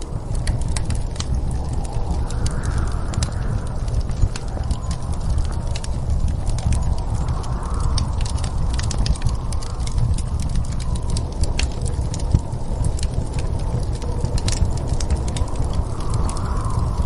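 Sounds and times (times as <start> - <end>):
low wind rumble: 0.0 - 17.0
wood fire crackling and popping: 0.0 - 17.0.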